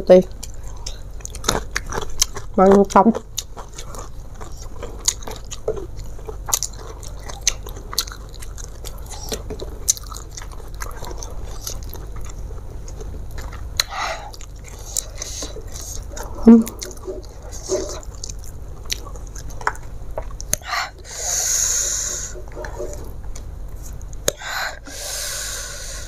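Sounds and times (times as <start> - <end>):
chewing: 0.3 - 24.4.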